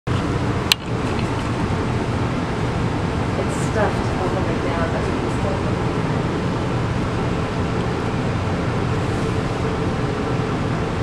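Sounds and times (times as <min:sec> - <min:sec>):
mechanical hum and rumble: 0:00.1 - 0:11.0.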